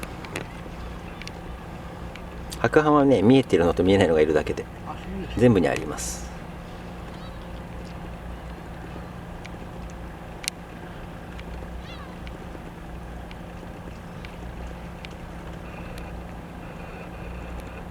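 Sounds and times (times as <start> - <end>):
faint high ticks and chirps: 0.0 - 17.9
low engine hum: 0.0 - 17.9.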